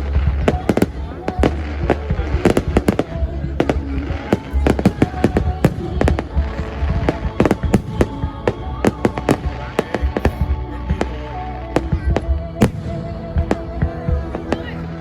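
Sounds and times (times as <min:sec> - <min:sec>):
fireworks bangs: 0:00.0 - 0:15.0
steady low rumble: 0:00.0 - 0:15.0.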